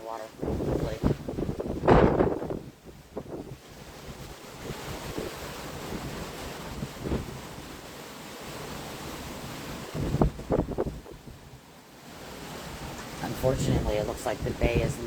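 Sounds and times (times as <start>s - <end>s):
wind buffeting microphone: 0.0s - 11.7s, 12.4s - 15.0s
strong wind: 0.0s - 15.0s
waves surging and washing: 0.0s - 15.0s.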